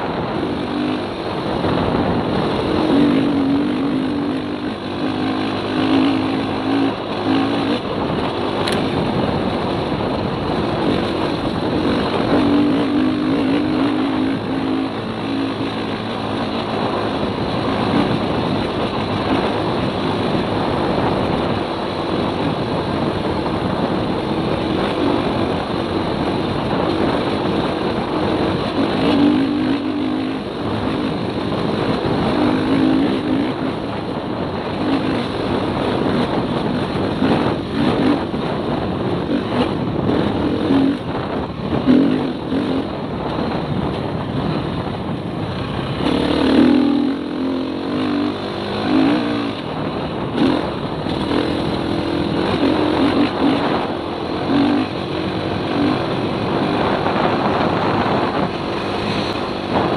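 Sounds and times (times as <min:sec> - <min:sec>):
motorcycle engine revving: 0:00.0 - 0:59.9
wind rushing on microphone: 0:00.0 - 0:59.9.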